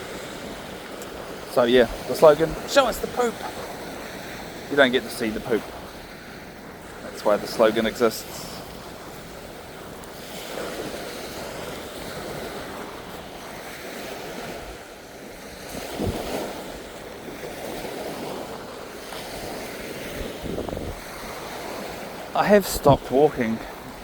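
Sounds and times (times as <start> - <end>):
small waves breaking on sand: 0.0 - 24.0
wind buffeting microphone: 0.0 - 24.0.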